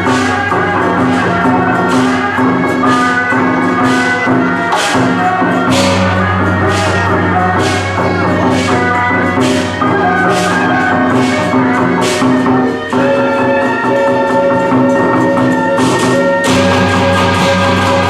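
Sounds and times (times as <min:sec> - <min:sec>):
cymbal crashes: 0:00.0 - 0:18.0
procession music with drone: 0:00.8 - 0:18.0.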